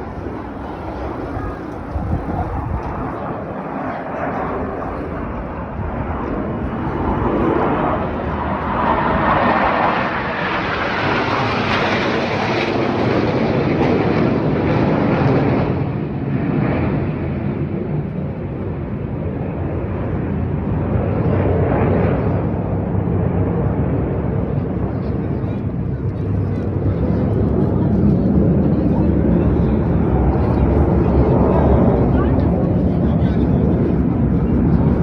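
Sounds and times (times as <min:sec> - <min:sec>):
jet aircraft flying past: 0:00.0 - 0:35.0.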